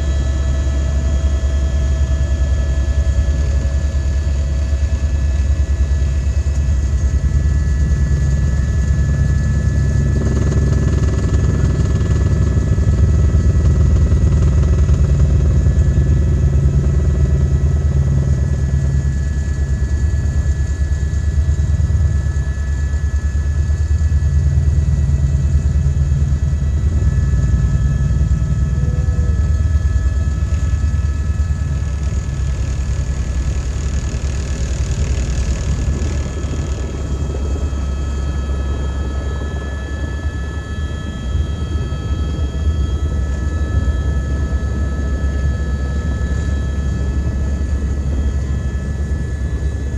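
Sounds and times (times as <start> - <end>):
helicopter rotor chop: 0.0 - 49.9
turbine whine: 0.0 - 49.9.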